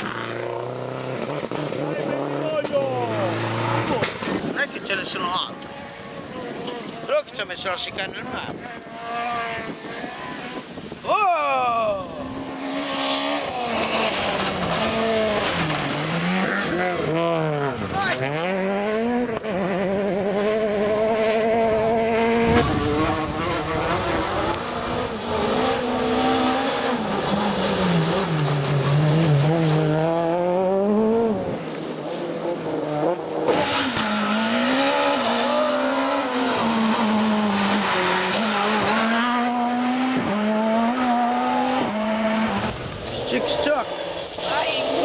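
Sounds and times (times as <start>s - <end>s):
rally car engine revving: 0.0s - 11.0s, 12.0s - 45.0s.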